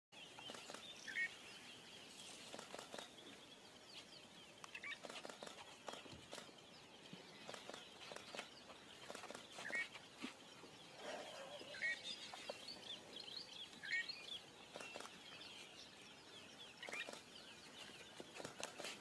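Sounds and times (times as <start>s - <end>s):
birds high chatter: 0.2s - 19.0s.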